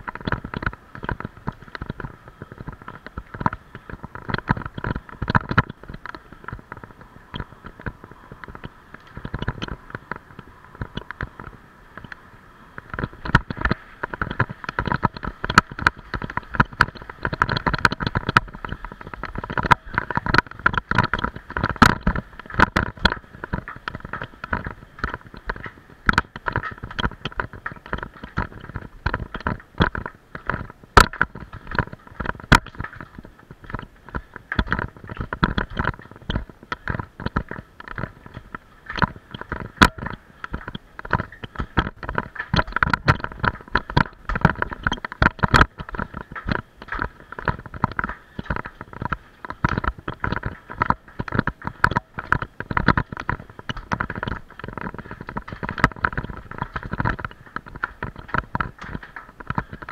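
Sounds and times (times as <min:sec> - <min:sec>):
bicycle rattling over stone: 0:00.0 - 0:59.9.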